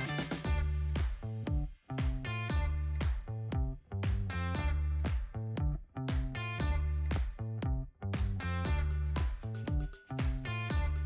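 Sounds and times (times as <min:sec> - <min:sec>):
upbeat music with guitar and bass: 0:00.0 - 0:11.0.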